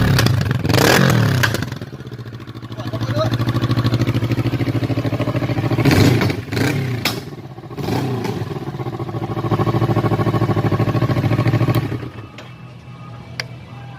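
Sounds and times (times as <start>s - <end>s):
motorcycle engine revving and idling: 0.0s - 12.5s.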